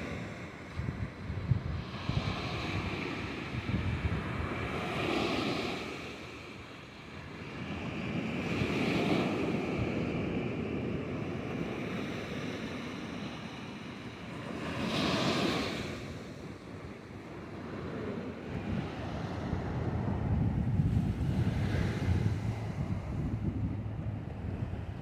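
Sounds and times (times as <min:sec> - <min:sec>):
surf washing up on sand: 0:00.0 - 0:25.0.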